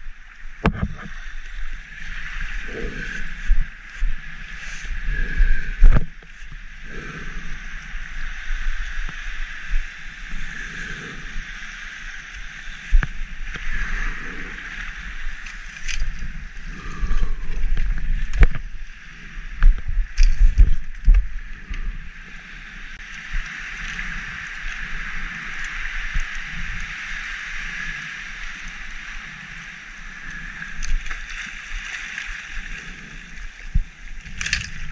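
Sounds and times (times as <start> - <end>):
muffled surf washing over sand: 0.0 - 34.9.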